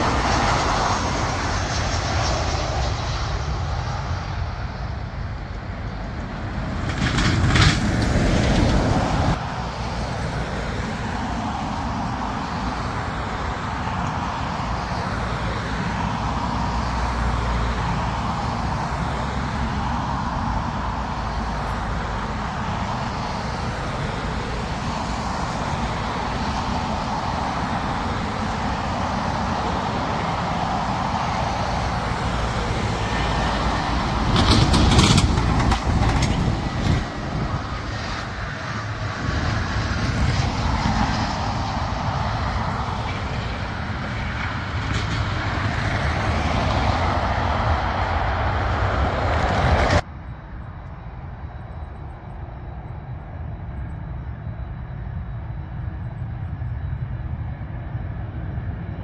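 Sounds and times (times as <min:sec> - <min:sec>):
distant jet rumble: 0:00.0 - 0:59.0
jet engines running: 0:00.0 - 0:59.0.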